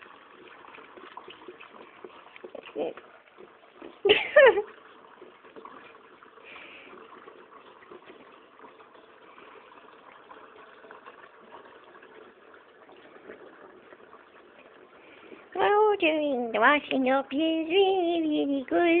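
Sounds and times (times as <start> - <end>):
water splashing in a sink: 0.0 - 19.0.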